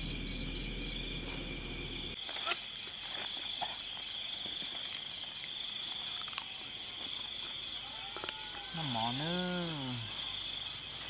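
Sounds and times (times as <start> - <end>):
crickets trilling: 0.0 - 11.0
pulsing cricket chirp: 0.0 - 11.0.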